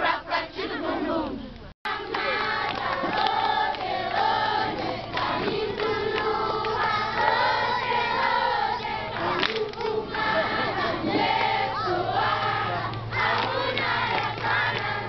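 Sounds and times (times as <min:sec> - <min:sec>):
crowd of children singing: 0:00.0 - 0:15.0.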